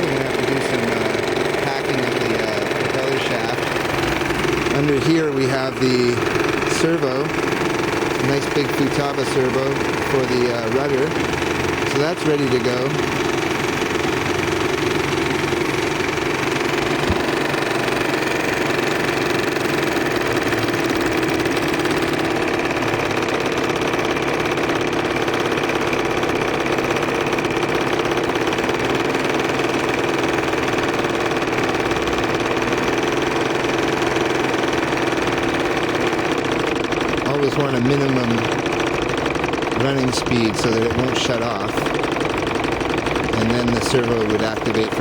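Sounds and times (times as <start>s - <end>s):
model steam engine running: 0.0s - 45.0s.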